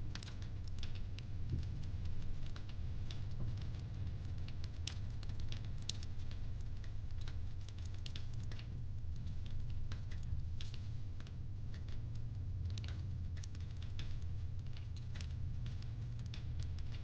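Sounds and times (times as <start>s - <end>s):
fireplace crackling: 0.1s - 17.0s.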